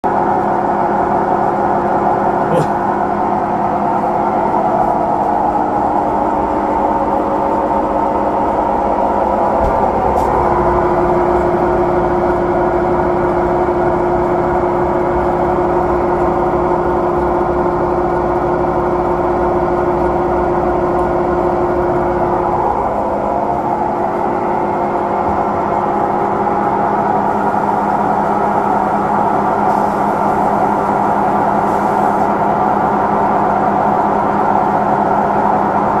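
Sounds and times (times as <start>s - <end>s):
washing machine whine: 0.0s - 36.0s
washing machine spinning: 0.1s - 36.0s.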